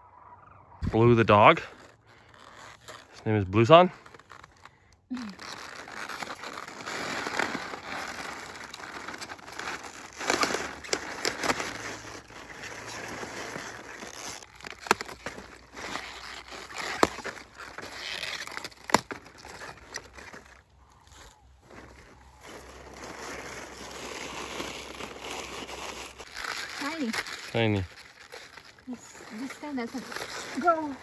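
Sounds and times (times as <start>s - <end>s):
leaves rustling and crackling: 0.1s - 31.0s.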